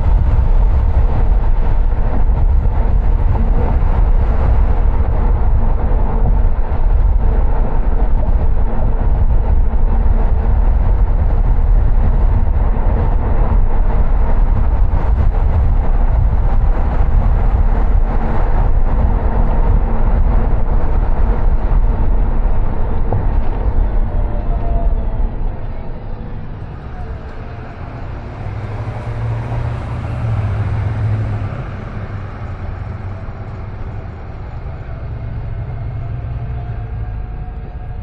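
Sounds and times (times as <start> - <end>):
road and engine rumble: 0.0 - 38.0.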